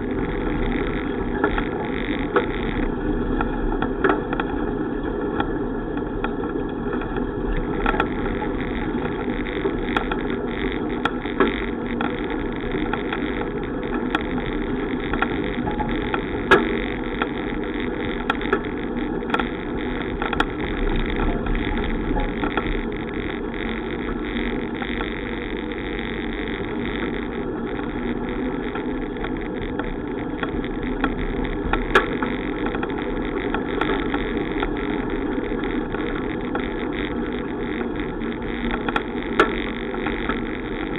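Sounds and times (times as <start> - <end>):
bicycle clicks and rattles: 0.0 - 40.9
bicycle road rumble: 0.0 - 40.9.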